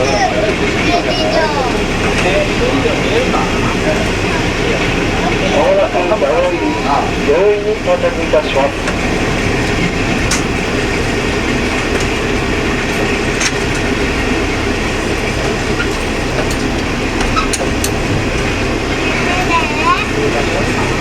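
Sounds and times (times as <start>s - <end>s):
diesel engine drone: 0.0s - 21.0s
rolling wheel noise: 0.0s - 21.0s
wheels clicking over rails: 0.0s - 21.0s.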